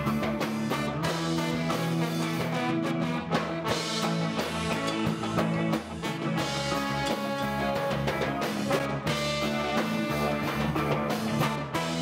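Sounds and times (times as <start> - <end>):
drum kit: 0.0 - 12.0
electric guitar: 0.0 - 12.0
horn section: 0.0 - 12.0
ska band playing live: 0.0 - 12.0.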